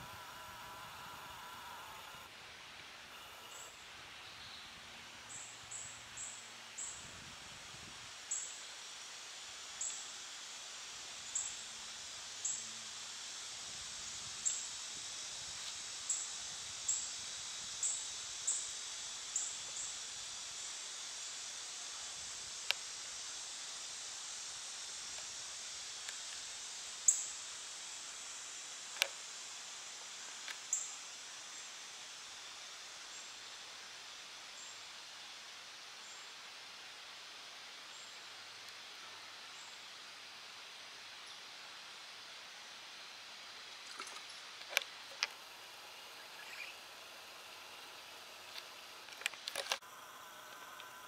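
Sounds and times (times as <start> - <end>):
steady high hiss: 0.0 - 51.0.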